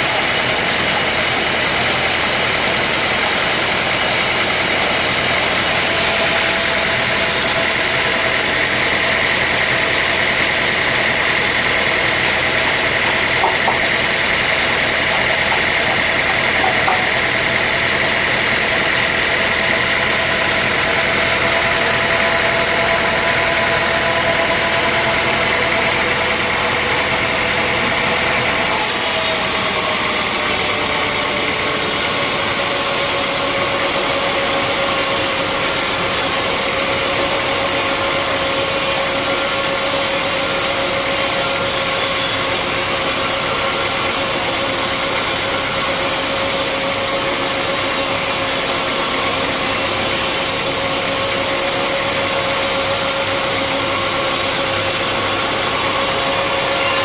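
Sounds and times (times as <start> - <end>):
high steady whine: 0.0 - 57.0
sawmill machinery engine running: 0.0 - 57.0.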